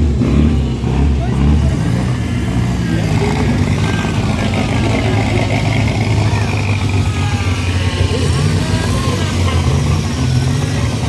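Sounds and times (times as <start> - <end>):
car engine idling: 0.0 - 11.0
faint voices: 0.0 - 11.0.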